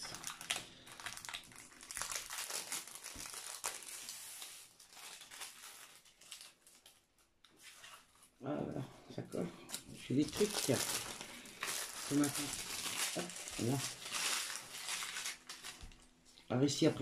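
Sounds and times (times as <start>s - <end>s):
plastic wrapping crinkling: 0.0s - 8.2s, 9.7s - 17.0s.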